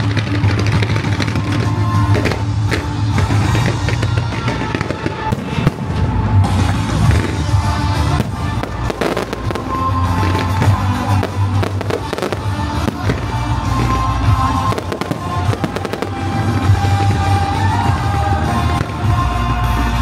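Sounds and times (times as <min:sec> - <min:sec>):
fireworks crackling and popping: 0:00.0 - 0:20.0
loud music with low beat: 0:00.0 - 0:20.0.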